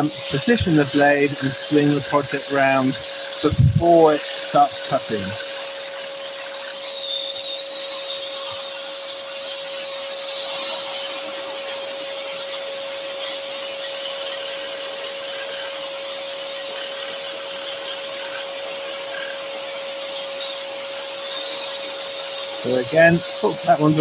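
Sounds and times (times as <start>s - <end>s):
scroll saw cutting wood: 0.0s - 24.0s.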